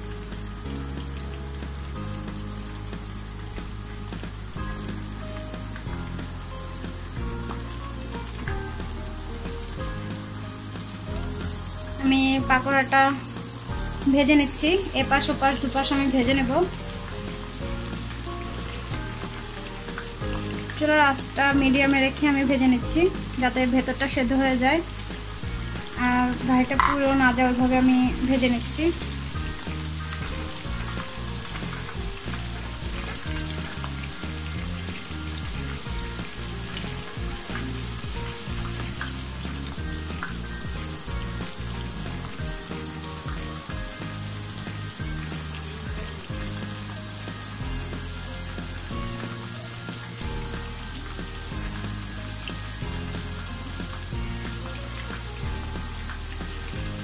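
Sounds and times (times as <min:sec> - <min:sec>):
food deep-frying in hot oil: 0:00.0 - 0:57.0
low background music: 0:00.0 - 0:57.0.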